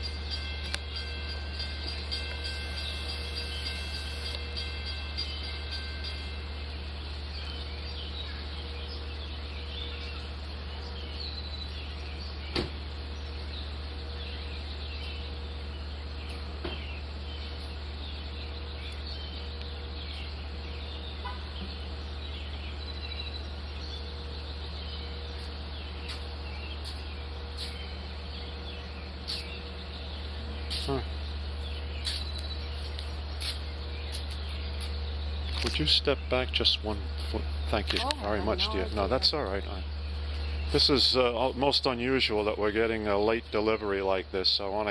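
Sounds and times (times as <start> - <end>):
small birds chirping: 0.4 - 44.9.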